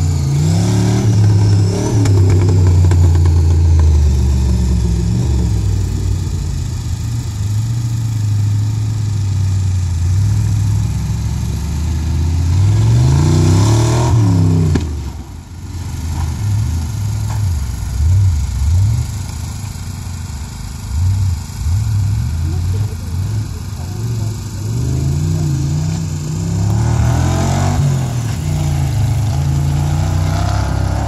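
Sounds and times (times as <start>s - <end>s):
off-road engine revving: 0.0s - 31.0s.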